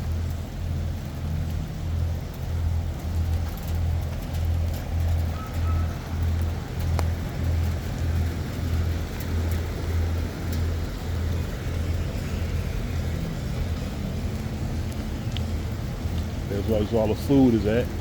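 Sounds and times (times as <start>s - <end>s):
low bass beat: 0.0s - 18.0s.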